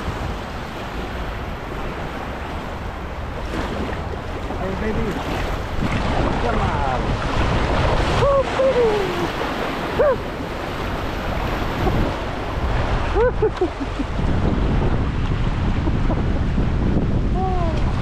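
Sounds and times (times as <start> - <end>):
water moving around kayak: 0.0 - 18.0
wind buffeting microphone: 0.0 - 18.0.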